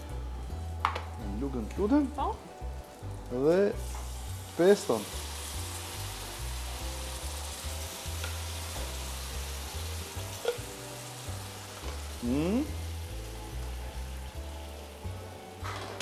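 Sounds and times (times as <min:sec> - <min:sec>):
chicken sizzling in a frying pan: 0:00.1 - 0:16.0.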